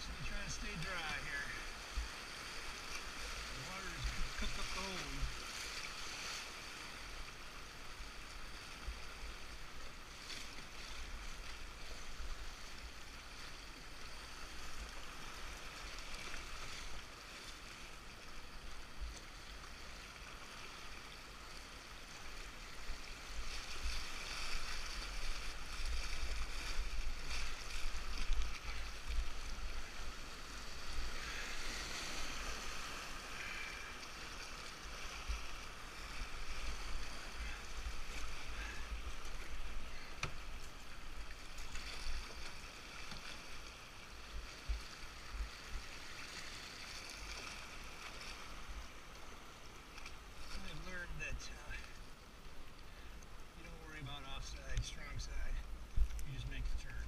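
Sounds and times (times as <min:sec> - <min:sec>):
river water rushing and splashing: 0:00.0 - 0:57.0.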